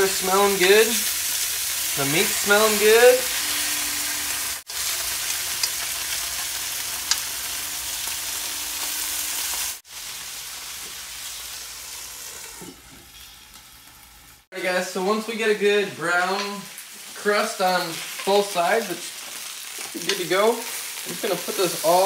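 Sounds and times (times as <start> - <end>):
liver and onions sizzling in a pan: 0.0 - 15.3, 15.9 - 22.0.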